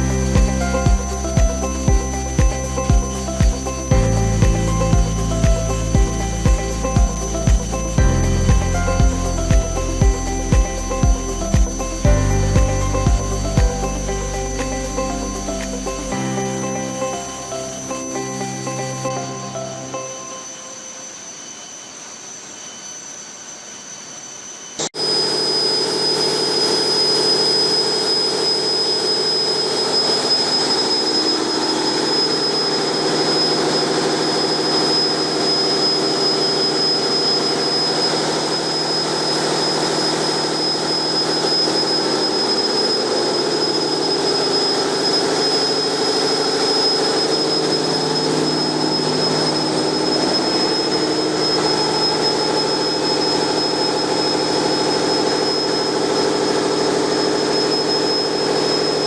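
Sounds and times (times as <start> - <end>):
steady high whine: 0.0 - 59.0.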